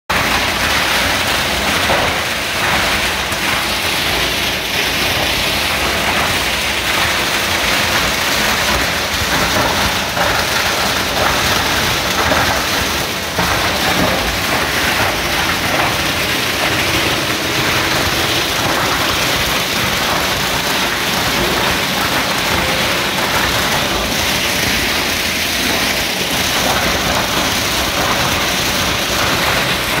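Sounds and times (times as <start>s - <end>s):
machine running: 0.1s - 30.0s
plastic granulator chopping plastic: 0.1s - 30.0s.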